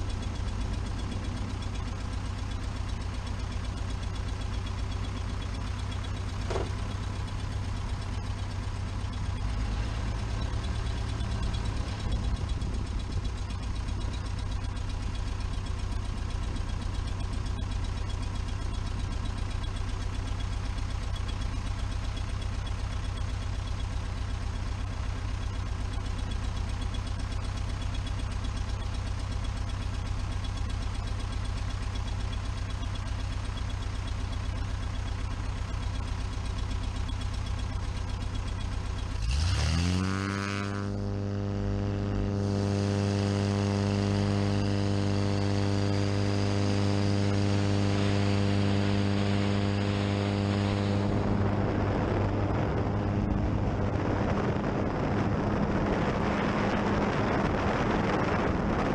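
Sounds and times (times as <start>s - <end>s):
aircraft engine idling: 0.0s - 58.9s.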